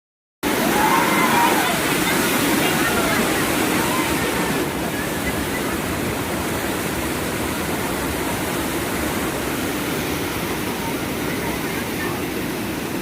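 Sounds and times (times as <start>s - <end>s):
rushing water roar: 0.4s - 13.0s.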